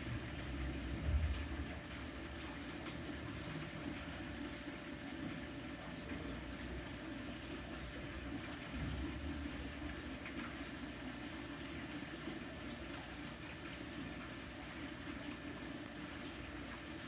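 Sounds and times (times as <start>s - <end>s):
aquarium water trickling: 0.0s - 17.0s.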